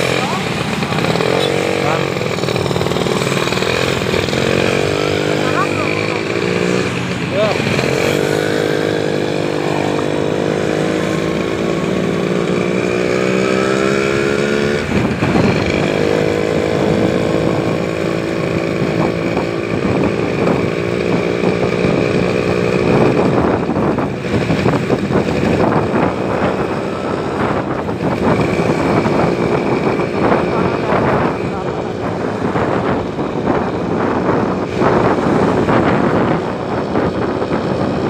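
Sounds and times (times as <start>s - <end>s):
vehicle engine accelerating: 0.0s - 38.0s.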